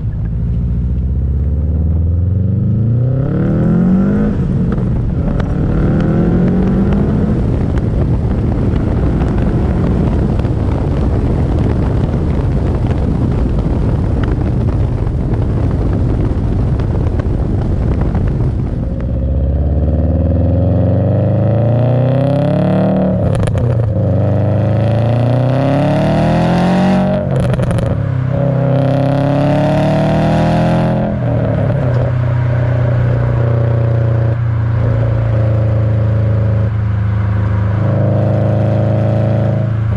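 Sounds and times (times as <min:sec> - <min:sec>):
car engine revving: 0:00.0 - 0:39.9
wind rushing on microphone: 0:00.0 - 0:39.9.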